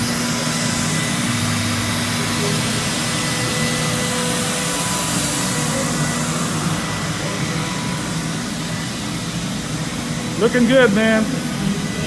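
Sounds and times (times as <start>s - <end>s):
electric motor whooshing drone: 0.0s - 12.0s.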